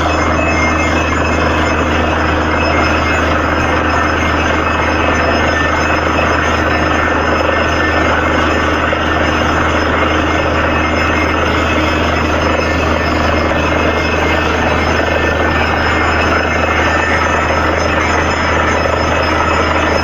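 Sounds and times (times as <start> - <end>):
drilling rig running: 0.0 - 20.0.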